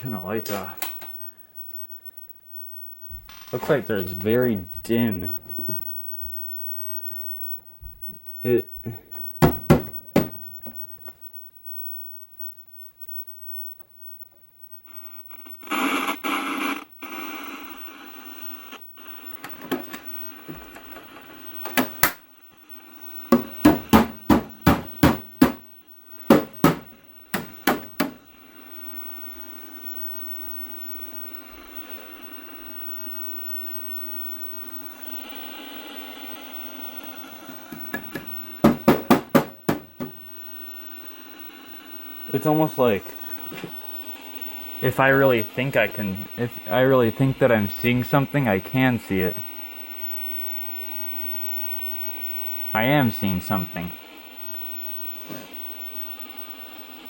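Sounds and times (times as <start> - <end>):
television static hiss: 0.0 - 57.0.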